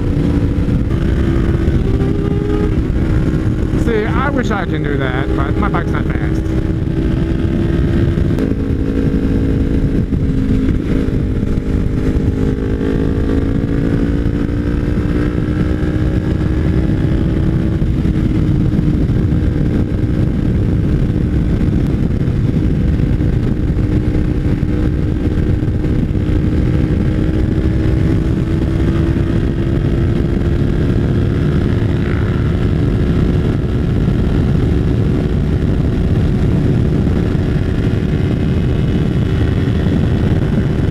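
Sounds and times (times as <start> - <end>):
motorcycle engine cruising: 0.0 - 40.9
wind rush: 0.0 - 40.9.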